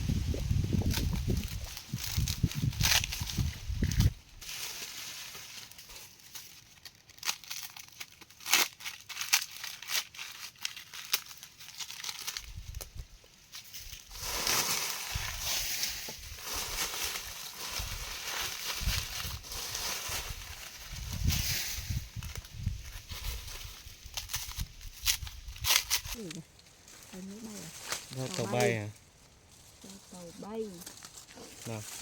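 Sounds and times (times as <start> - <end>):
leaves rustling: 0.0 - 32.0
leaves crackling and snapping: 0.1 - 29.0, 29.6 - 32.0.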